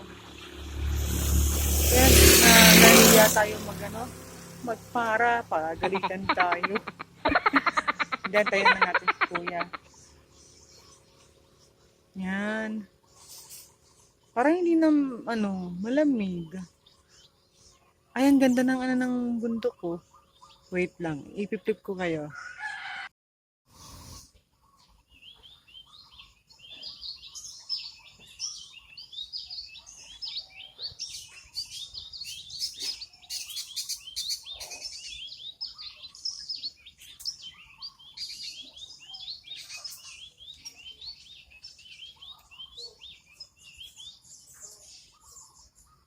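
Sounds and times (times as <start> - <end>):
small birds chirping: 0.0 - 22.4, 23.7 - 46.0.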